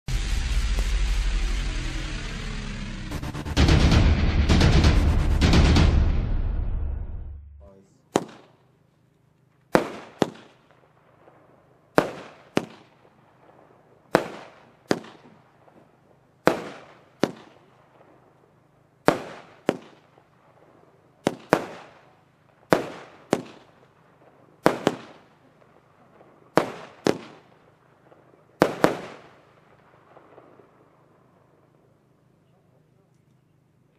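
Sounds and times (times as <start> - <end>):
fireworks bangs: 0.1 - 8.6, 9.7 - 18.2, 19.0 - 31.0.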